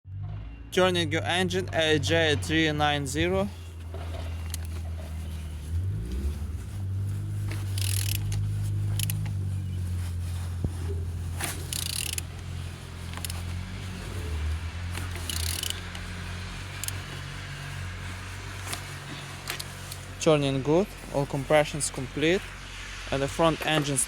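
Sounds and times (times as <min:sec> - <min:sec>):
low machinery hum: 0:00.1 - 0:24.0
engine turned over by hand: 0:00.2 - 0:22.3.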